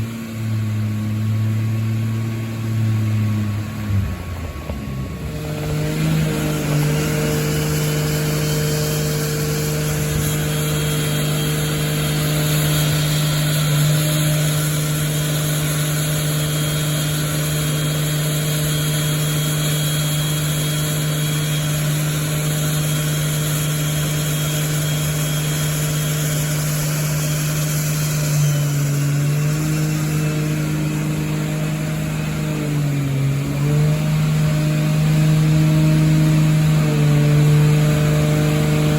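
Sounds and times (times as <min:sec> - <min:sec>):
car engine running steadily: 0:00.0 - 0:38.9.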